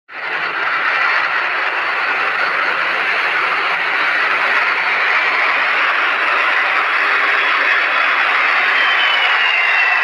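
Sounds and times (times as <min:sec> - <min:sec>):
jet engines rushing hiss: 0:00.1 - 0:10.0.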